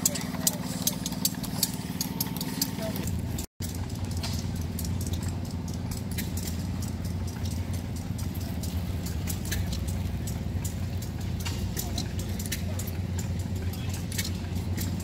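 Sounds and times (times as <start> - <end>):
sharp clicks and ticks: 0.0 - 15.0
stationary engines droning: 0.0 - 15.0.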